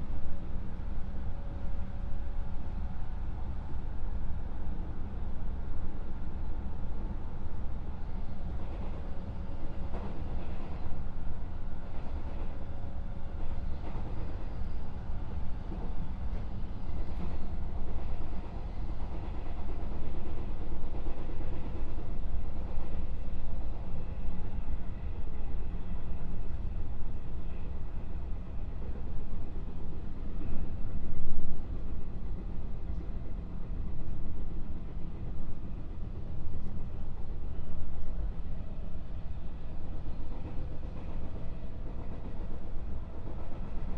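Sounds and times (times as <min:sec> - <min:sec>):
train wheels and motors rumbling: 0:00.0 - 0:43.9.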